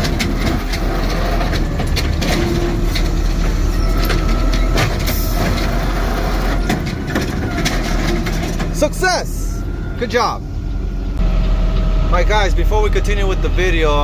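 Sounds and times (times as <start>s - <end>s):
garbage truck running: 0.0s - 14.0s
steady mechanical whine: 0.0s - 14.0s.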